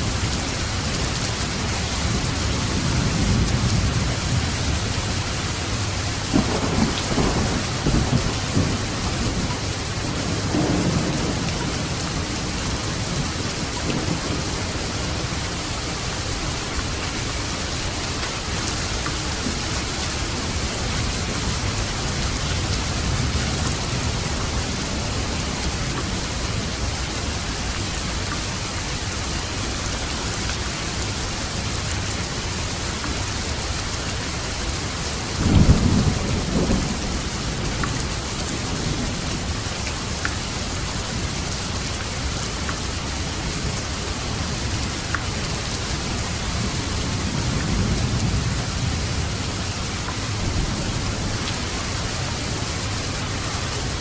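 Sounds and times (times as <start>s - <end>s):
steady rain: 0.0s - 54.0s
low rumble of thunder: 0.1s - 54.0s.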